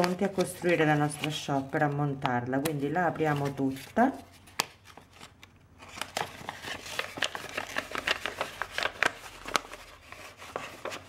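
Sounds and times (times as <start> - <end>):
paper rustling and crinkling: 0.0 - 2.0, 2.6 - 11.0.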